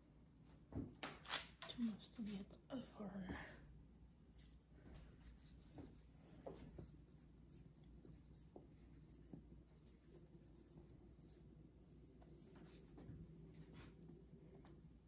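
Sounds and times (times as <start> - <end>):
faint rustling and scraping: 1.7 - 15.0.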